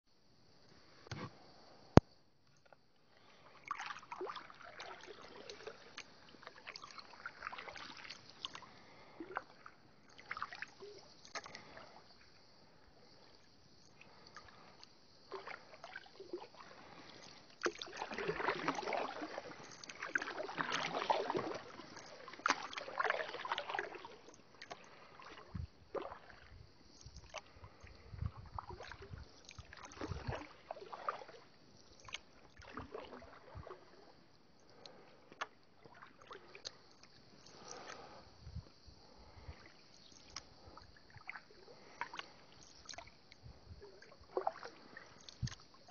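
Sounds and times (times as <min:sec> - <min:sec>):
water trickling along hull: 0:00.3 - 0:45.9
paddle splashing in water: 0:03.1 - 0:45.9.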